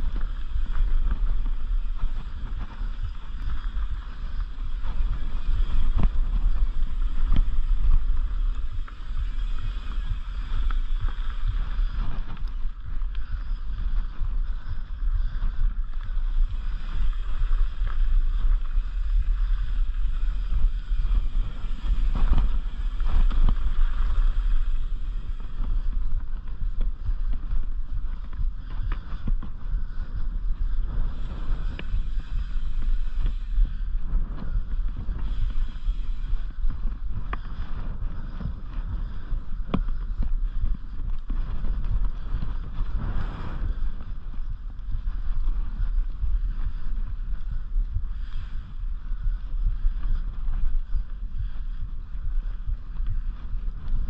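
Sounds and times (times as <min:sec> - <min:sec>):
tyres on loose dirt: 0:00.0 - 0:46.8
wind buffeting microphone: 0:00.0 - 0:54.0.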